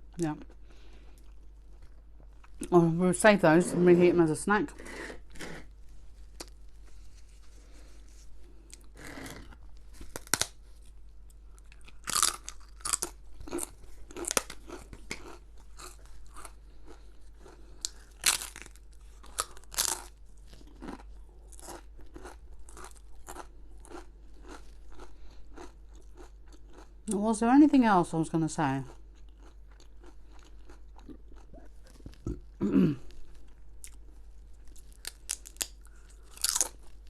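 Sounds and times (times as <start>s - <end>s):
crunching and chewing crisp food: 0.0s - 2.8s, 5.1s - 27.4s, 28.7s - 37.0s.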